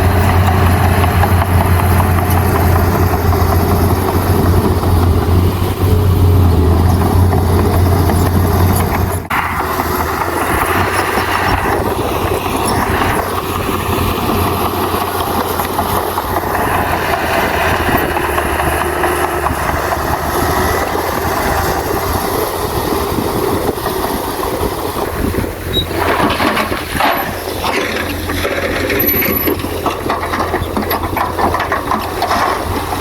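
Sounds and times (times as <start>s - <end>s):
heavy diesel machinery running: 0.0s - 33.0s.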